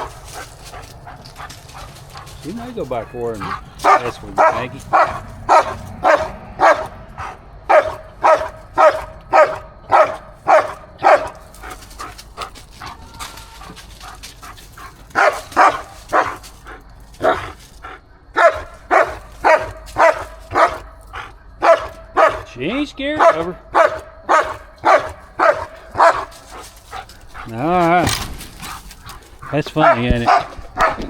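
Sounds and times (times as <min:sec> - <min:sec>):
dog barking: 0:00.0 - 0:12.1, 0:13.6 - 0:22.5, 0:23.1 - 0:31.0.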